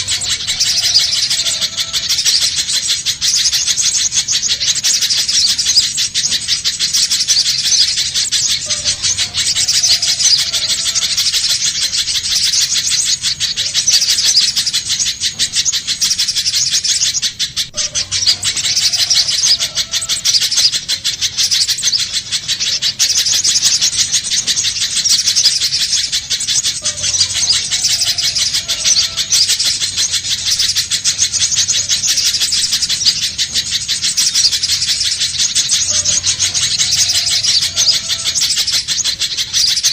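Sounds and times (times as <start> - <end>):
bird singing high-pitched notes: 0.0 - 39.9.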